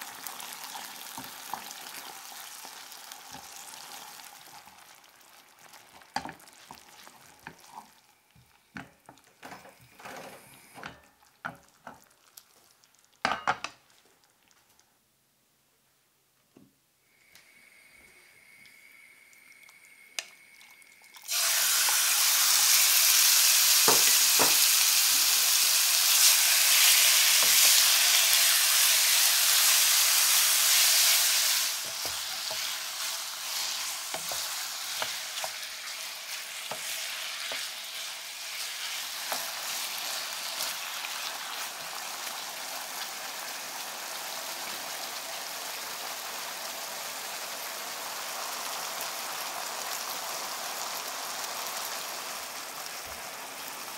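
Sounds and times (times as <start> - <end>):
chicken sizzling in a pan: 0.0 - 14.5, 17.0 - 53.9.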